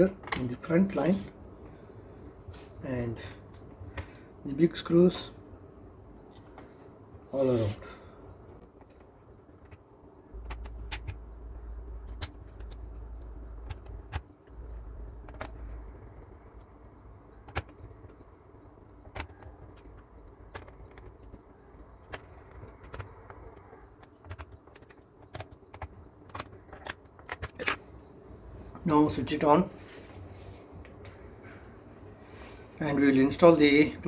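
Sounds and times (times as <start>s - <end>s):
low rumble of handling: 6.0s - 33.8s.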